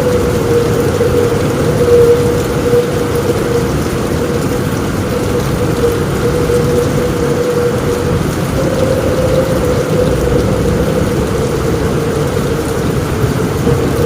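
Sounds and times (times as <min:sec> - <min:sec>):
heavy rain on a roof: 0:00.0 - 0:14.0
low rumble: 0:00.0 - 0:14.0.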